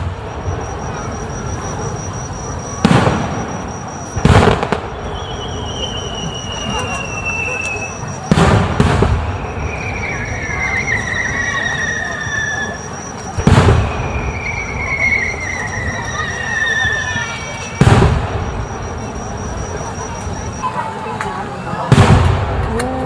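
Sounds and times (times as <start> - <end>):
falling high whine: 0.0 - 8.3, 9.2 - 20.6
fireworks booming: 0.0 - 20.6, 21.9 - 23.0
thin steady high tone: 0.0 - 21.8.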